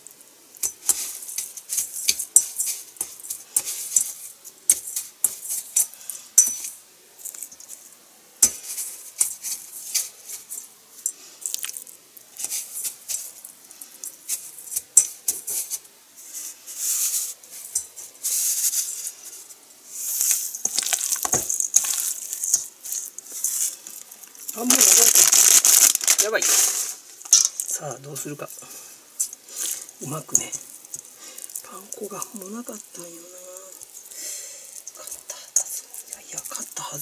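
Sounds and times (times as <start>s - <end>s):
breadcrumbs rustling and crunching: 0.0s - 37.0s.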